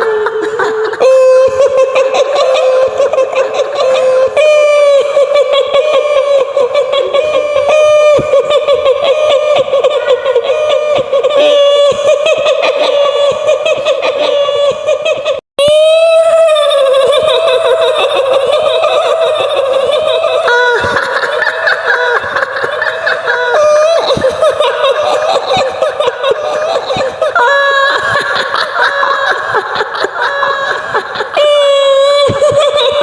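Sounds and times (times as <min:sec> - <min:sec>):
woman's shrill cackling laugh: 0:00.4 - 0:33.0.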